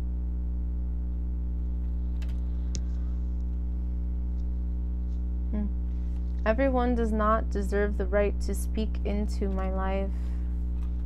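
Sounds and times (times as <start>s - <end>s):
low droning tone: 0.0s - 11.0s.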